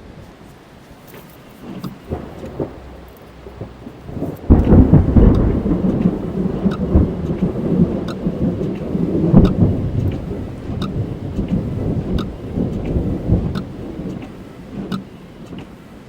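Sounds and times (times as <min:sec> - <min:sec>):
steady rain: 0:00.0 - 0:16.0
thunder rumbling: 0:00.0 - 0:16.0
raindrops ticking on car: 0:00.4 - 0:16.0.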